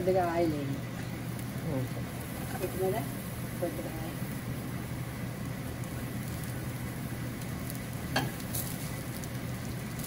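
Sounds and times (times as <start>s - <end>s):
patties sizzling on a griddle: 0.0s - 10.0s.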